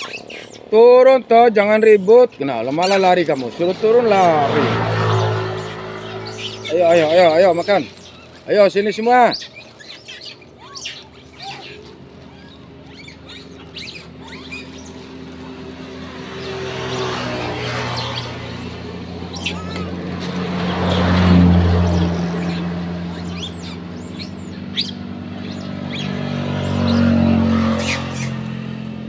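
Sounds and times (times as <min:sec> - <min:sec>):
vehicles passing on road: 0:00.0 - 0:29.0.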